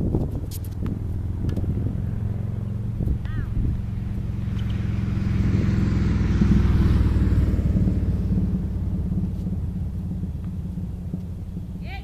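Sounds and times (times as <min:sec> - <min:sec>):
passing vehicle engine rumble: 0:00.0 - 0:12.0.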